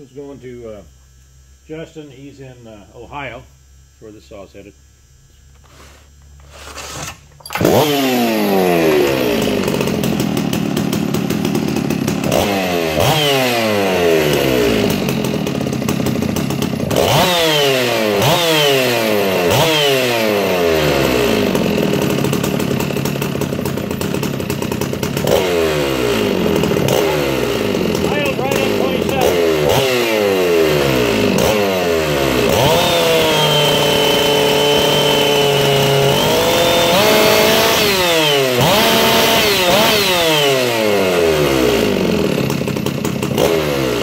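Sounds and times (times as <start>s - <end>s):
chainsaw revving: 5.6s - 44.0s.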